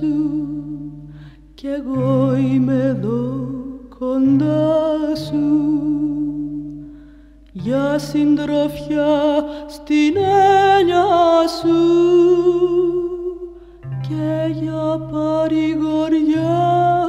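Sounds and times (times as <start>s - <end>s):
slow song with held notes: 0.0s - 17.0s.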